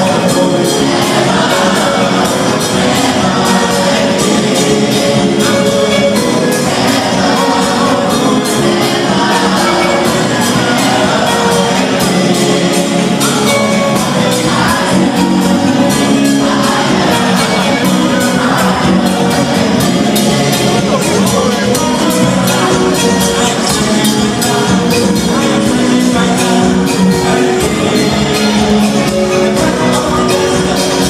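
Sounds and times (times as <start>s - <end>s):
gospel band playing: 0.0s - 31.0s
singing: 0.0s - 31.0s
steady drum beat: 0.0s - 31.0s.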